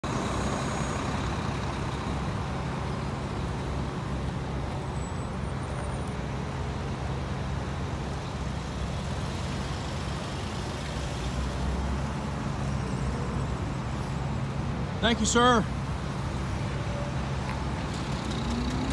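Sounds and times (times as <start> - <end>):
vehicle engines idling: 0.0 - 18.9.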